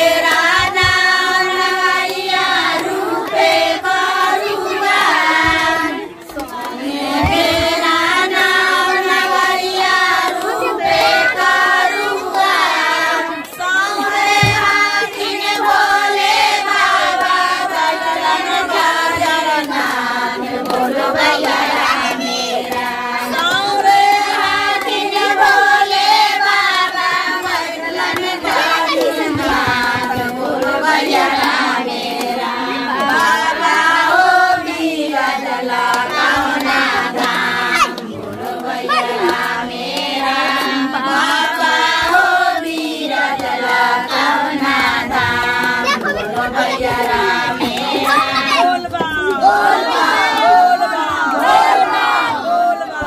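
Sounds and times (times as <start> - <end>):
women singing folk song: 0.0 - 53.0.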